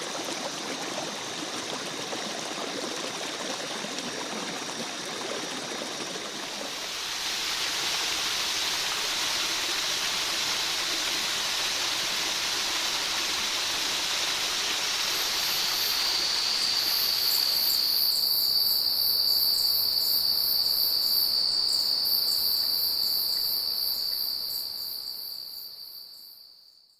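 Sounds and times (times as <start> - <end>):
rainforest rushing ambience: 0.0 - 25.6
insects droning and chirping: 0.0 - 26.9.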